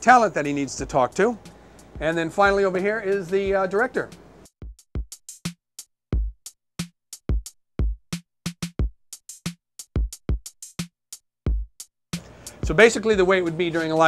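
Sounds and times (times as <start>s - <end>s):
drum machine beat: 0.8s - 5.6s, 6.2s - 10.9s, 11.5s - 14.0s.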